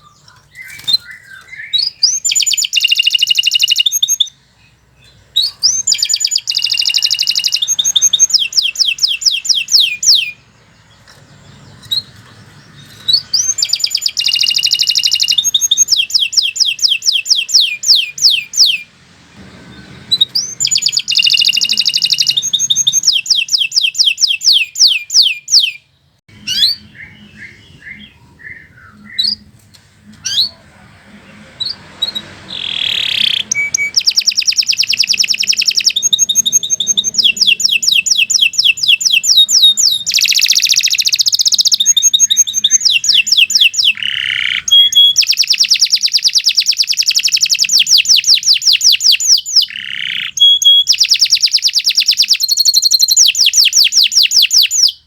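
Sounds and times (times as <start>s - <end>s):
canary singing: 0.0s - 55.0s
soft bird chirps: 0.0s - 55.0s.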